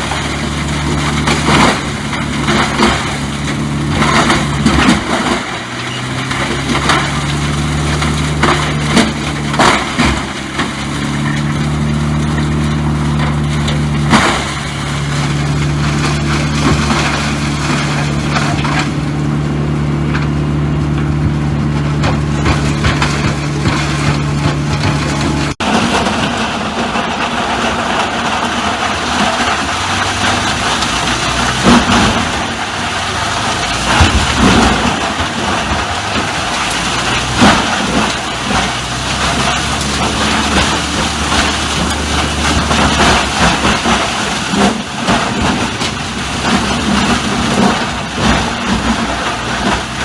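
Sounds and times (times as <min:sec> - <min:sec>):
heavy machine engine running: 0:00.0 - 0:50.0
wood cracking and splintering: 0:00.0 - 0:50.0.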